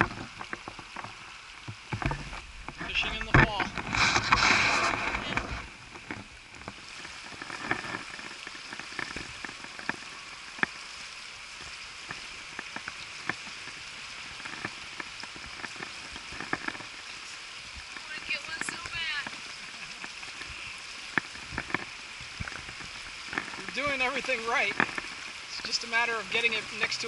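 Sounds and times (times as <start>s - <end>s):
river babbling over stones: 0.0s - 27.0s.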